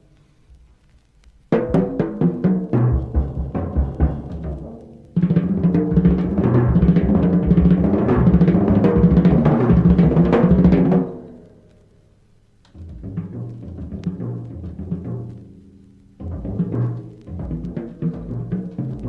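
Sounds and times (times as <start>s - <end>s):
jazz music with bass and drums: 1.0s - 11.5s, 12.7s - 19.0s.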